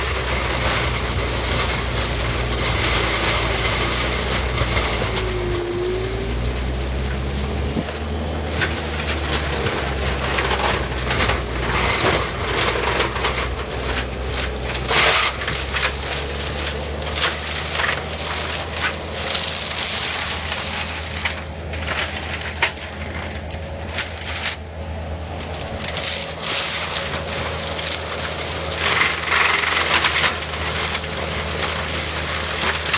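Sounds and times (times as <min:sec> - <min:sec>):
diesel engine running under load: 0:00.0 - 0:32.9
wood crackling and splintering: 0:00.0 - 0:32.9.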